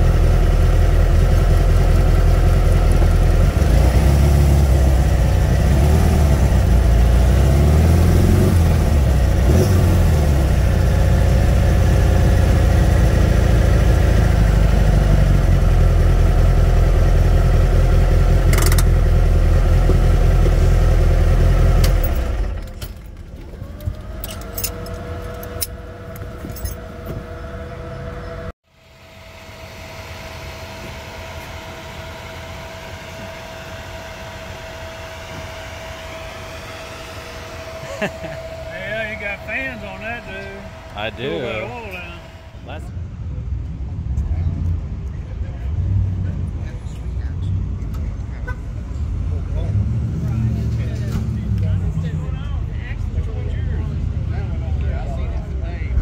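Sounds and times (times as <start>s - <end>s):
car engine revving: 0.0s - 28.5s, 33.8s - 43.0s, 43.8s - 55.3s.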